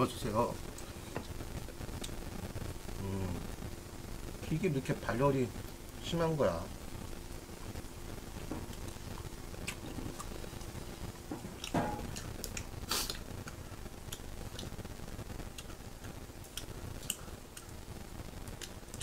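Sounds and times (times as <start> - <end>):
pork sizzling on a grill pan: 0.0 - 19.0.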